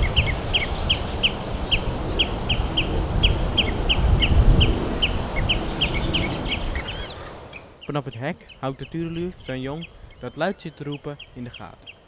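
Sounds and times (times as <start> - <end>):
bird chick begging calls: 0.0 - 12.0.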